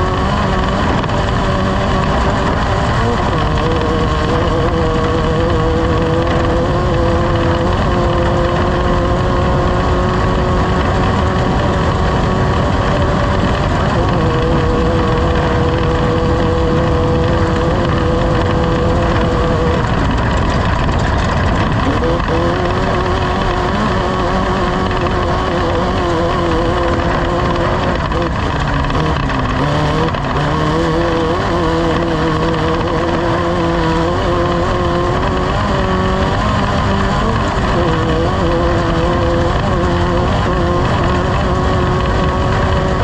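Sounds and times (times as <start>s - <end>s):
race vehicle engine running hard: 0.0s - 43.0s.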